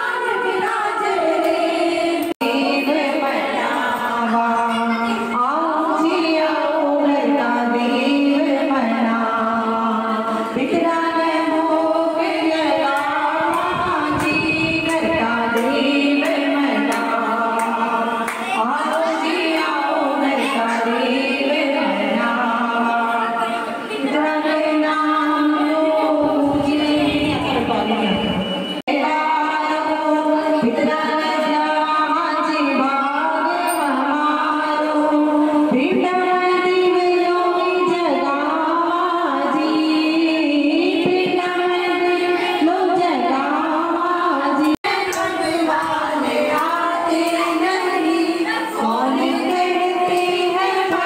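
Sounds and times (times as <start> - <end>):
women singing devotional song: 0.0 - 51.0.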